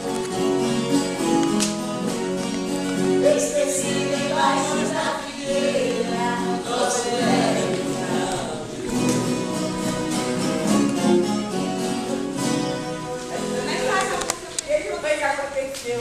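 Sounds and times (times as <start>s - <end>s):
group singing folk song: 0.0s - 14.3s
guitar accompaniment: 0.0s - 15.1s.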